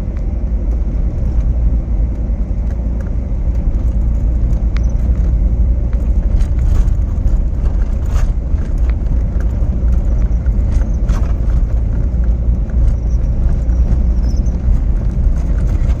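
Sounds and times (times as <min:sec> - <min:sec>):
tyre rumble on road: 0:00.0 - 0:16.0.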